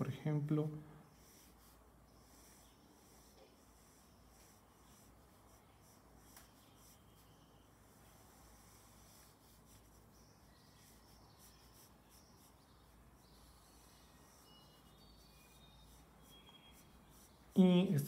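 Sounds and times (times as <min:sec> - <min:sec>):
pencil scratching on paper: 0:01.1 - 0:17.8.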